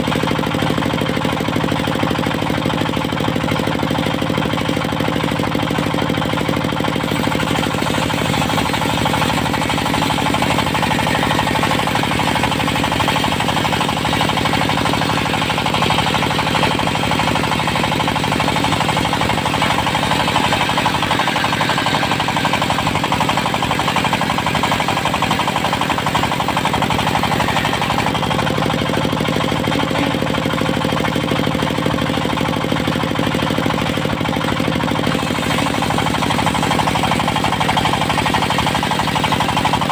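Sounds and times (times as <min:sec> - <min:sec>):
diesel engine clattering: 0:00.0 - 0:39.9
saw blade spinning: 0:05.8 - 0:39.9.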